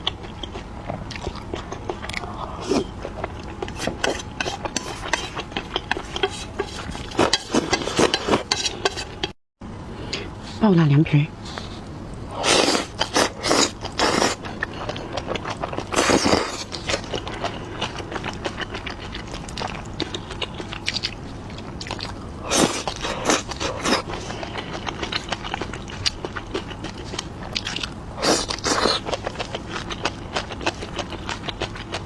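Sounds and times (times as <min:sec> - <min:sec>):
person chewing wetly: 0:00.0 - 0:09.4, 0:12.4 - 0:32.0.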